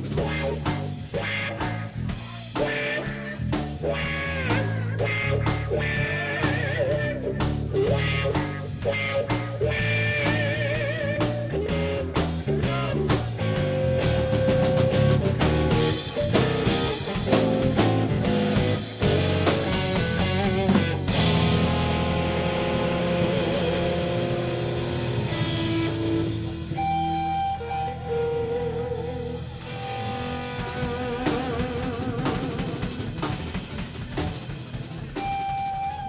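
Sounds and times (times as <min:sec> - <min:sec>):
bass guitar: 0:00.0 - 0:36.0
drum kit: 0:00.0 - 0:36.0
electric guitar lead: 0:00.0 - 0:36.0.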